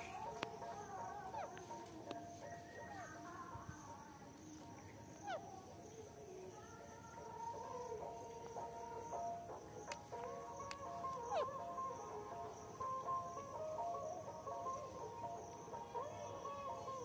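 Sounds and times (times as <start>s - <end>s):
parrot call: 0.0s - 3.9s, 4.5s - 6.8s, 7.4s - 17.0s
soft background music: 0.0s - 17.0s.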